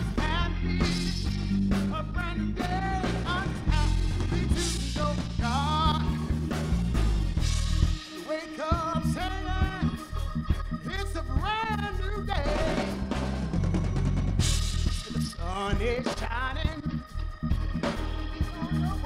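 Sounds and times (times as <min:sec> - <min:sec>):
live gospel band music: 0:00.0 - 0:19.0.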